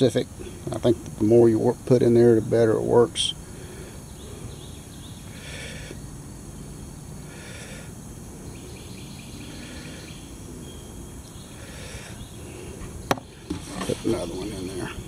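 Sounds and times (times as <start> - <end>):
faint chirping call: 2.1 - 15.0.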